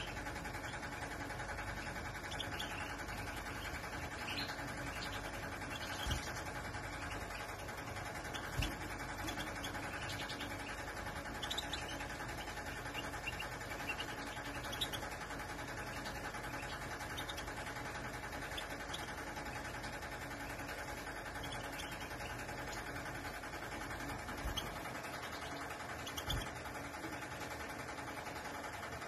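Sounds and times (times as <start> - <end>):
finches chirping: 0.0 - 28.1
steady background hum: 0.0 - 29.0.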